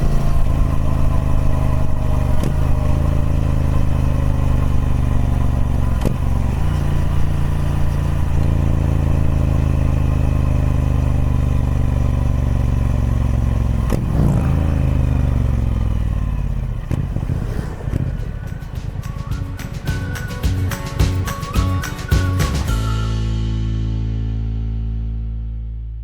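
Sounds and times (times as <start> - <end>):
motorcycle engine running: 0.0 - 25.4.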